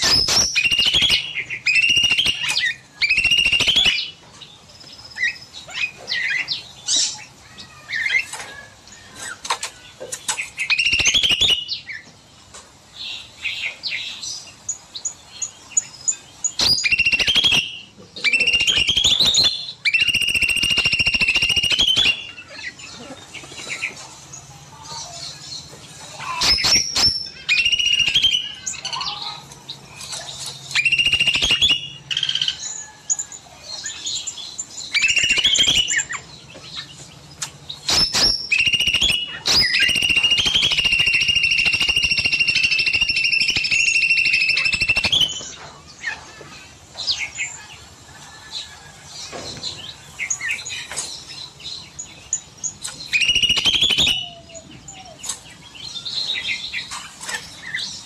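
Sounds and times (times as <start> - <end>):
songbird trilling song: 0.0 - 12.1, 13.0 - 46.3, 48.6 - 58.0
soft bird chirps and twitters: 0.0 - 58.0.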